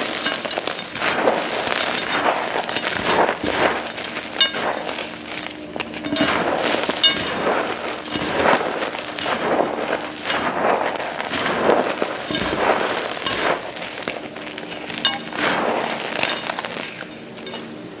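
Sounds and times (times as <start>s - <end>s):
chalk block crunching: 0.0s - 17.6s.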